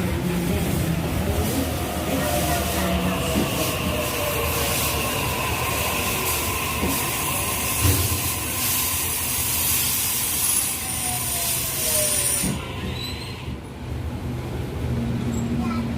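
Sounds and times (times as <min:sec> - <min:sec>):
faint train whine: 0:00.0 - 0:15.8
train wheels rumbling on track: 0:00.0 - 0:15.9.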